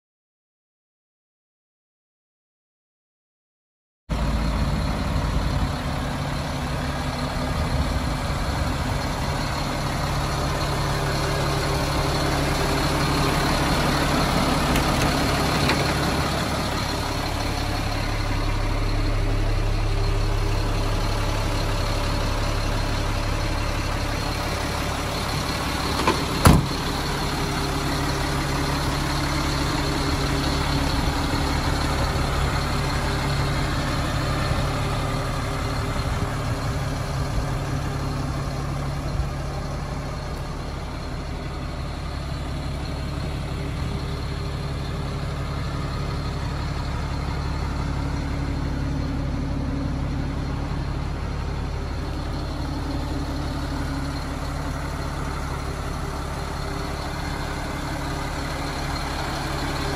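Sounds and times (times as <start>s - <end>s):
diesel truck engine idling: 4.1s - 59.9s.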